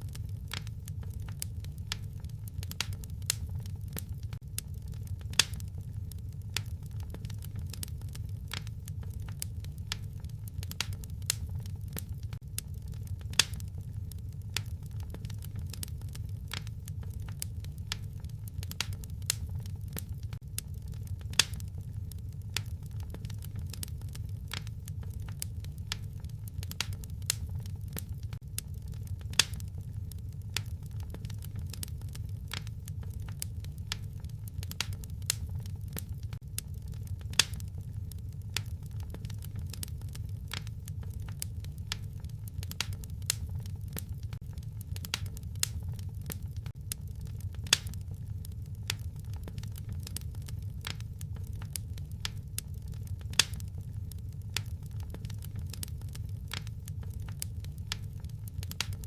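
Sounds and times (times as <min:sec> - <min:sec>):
fire crackling and popping: 0:00.0 - 0:59.0
low rumble of fire: 0:00.0 - 0:59.0.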